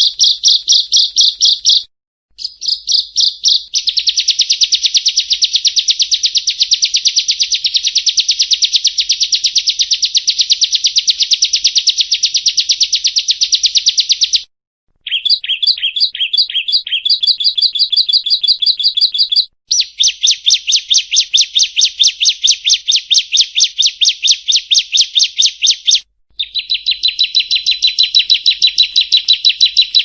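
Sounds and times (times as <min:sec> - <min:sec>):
bird song with high chips and trill: 0:00.0 - 0:30.0.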